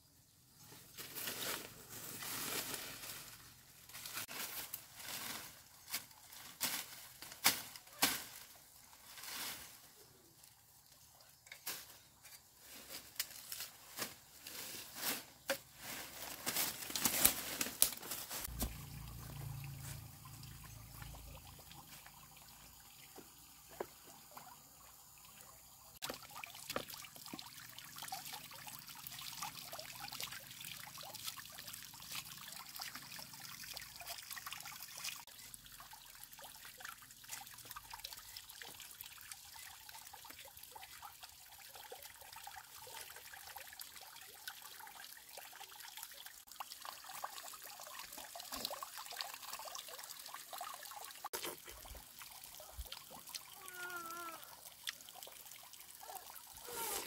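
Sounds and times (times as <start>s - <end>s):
water trickling and pouring: 0.4s - 57.0s.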